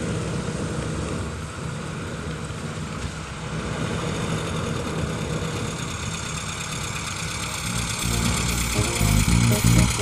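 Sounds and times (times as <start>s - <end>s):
car engine running: 0.1s - 10.0s.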